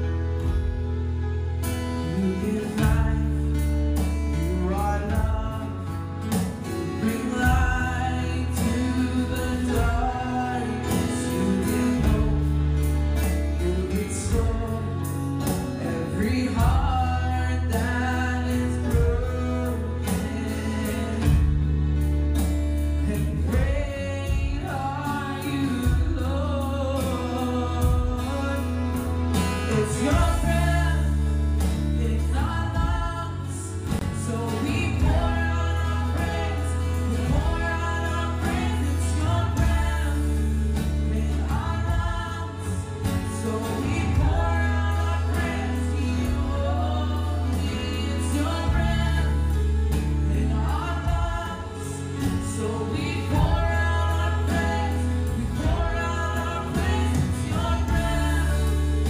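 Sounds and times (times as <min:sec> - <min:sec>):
held bass notes: 0:00.0 - 0:59.0
worship song singing: 0:00.0 - 0:59.0.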